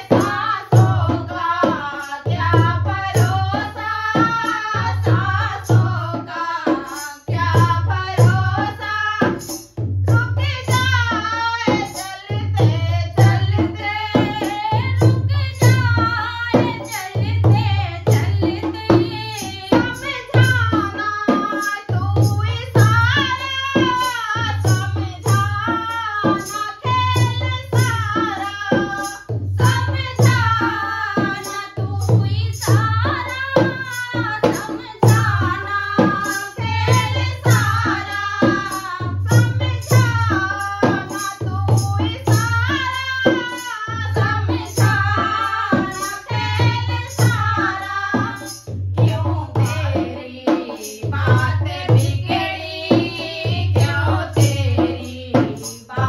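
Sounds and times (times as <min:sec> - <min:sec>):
women singing: 0:00.0 - 0:56.0.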